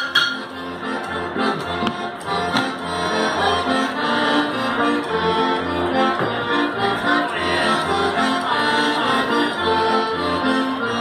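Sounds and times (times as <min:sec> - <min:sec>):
accordion dance music: 0:00.0 - 0:11.0.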